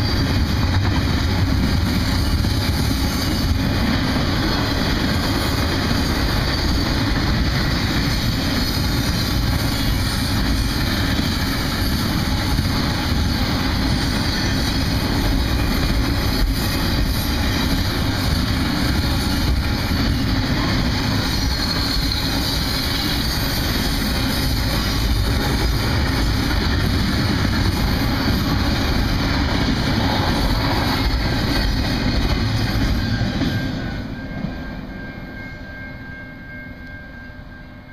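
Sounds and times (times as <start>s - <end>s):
freight train wheels rumbling on rails: 0.0s - 37.9s.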